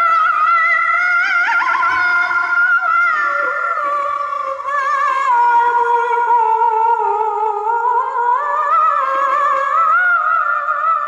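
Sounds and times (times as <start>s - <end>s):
woman reciting melodically: 0.0s - 11.0s.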